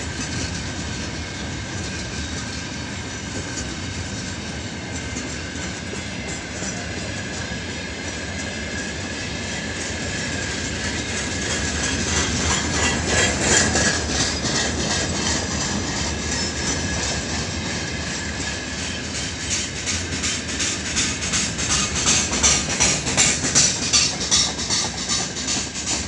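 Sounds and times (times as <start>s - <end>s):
freight train wheels clacking: 0.0s - 26.0s.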